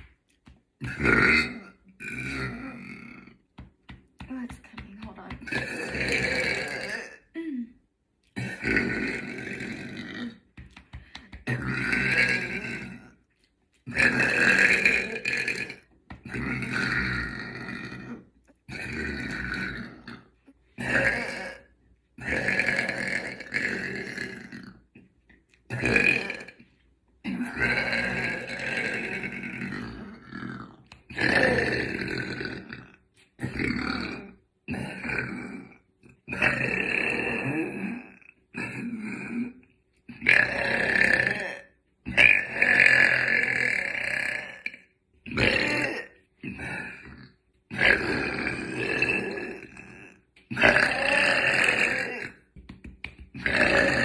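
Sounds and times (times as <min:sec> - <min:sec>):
woman burping loudly: 0:00.8 - 0:03.4, 0:04.3 - 0:07.8, 0:08.4 - 0:10.5, 0:11.4 - 0:13.1, 0:13.9 - 0:25.0, 0:25.7 - 0:26.6, 0:27.2 - 0:39.6, 0:40.2 - 0:52.5, 0:53.4 - 0:54.0.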